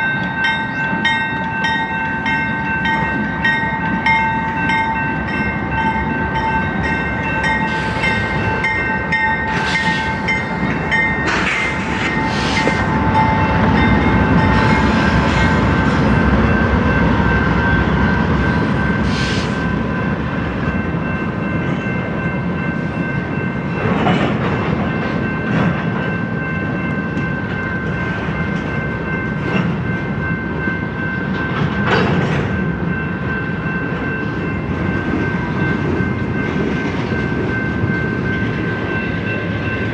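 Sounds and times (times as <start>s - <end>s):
freight train rumbling: 0.0s - 39.9s
train clanks: 0.0s - 39.9s.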